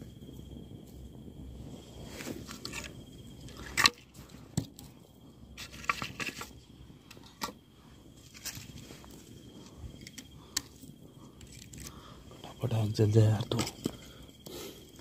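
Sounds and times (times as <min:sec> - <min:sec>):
firewood knocking and scraping: 0:01.6 - 0:15.0.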